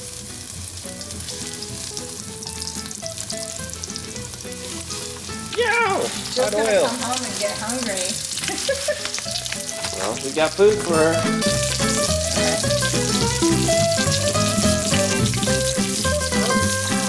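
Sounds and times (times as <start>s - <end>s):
frying in hot oil sizzling: 0.0s - 17.0s.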